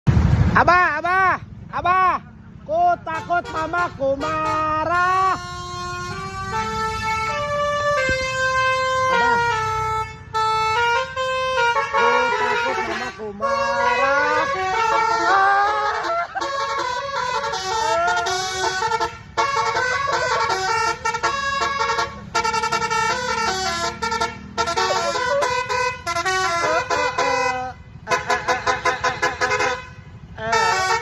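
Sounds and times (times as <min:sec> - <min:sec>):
multi-tone bus horn melody: 0:03.0 - 0:31.0.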